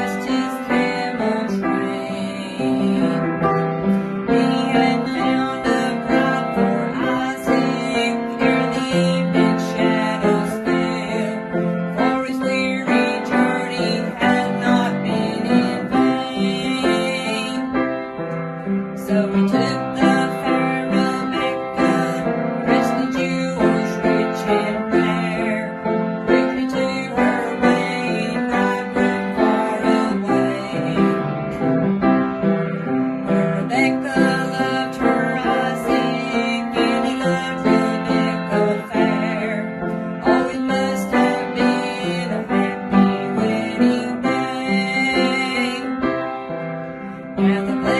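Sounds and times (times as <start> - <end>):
woman singing gospel: 0.0 - 3.4, 4.2 - 17.7, 19.0 - 31.3, 33.3 - 46.0, 47.4 - 47.9
piano chords: 0.0 - 47.9.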